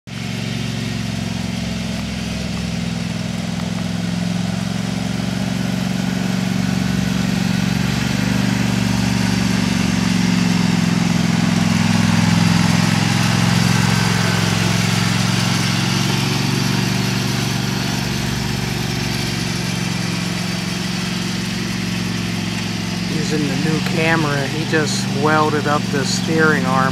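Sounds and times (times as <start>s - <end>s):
garden tractor engine running: 0.1s - 26.9s.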